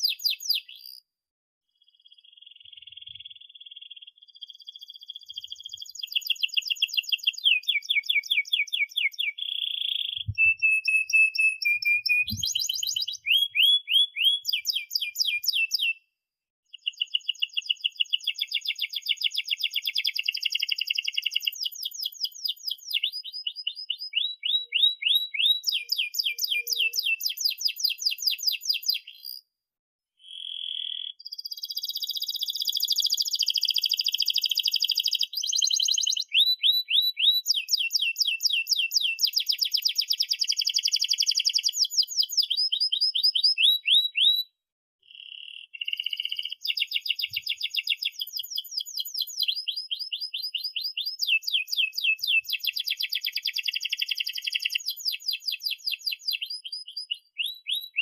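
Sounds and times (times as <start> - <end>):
canary singing trills: 0.0 - 1.0, 1.8 - 16.0, 16.7 - 29.4, 30.2 - 44.5, 45.1 - 58.0.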